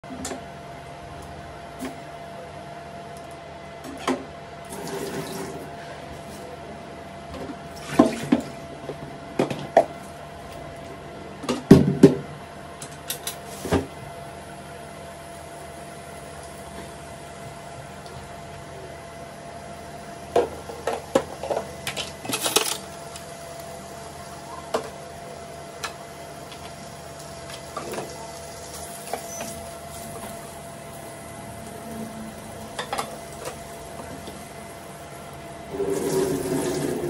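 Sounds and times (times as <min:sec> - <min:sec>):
induction cooktop hum and whine: 0:00.0 - 0:37.0.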